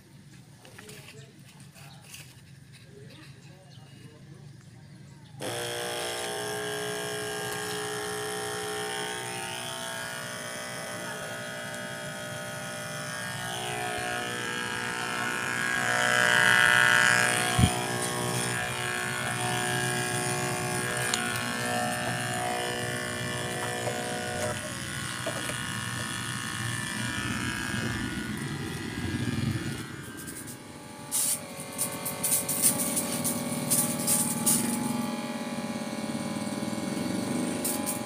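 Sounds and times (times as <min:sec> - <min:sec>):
water pump motor hum: 0:05.4 - 0:38.0.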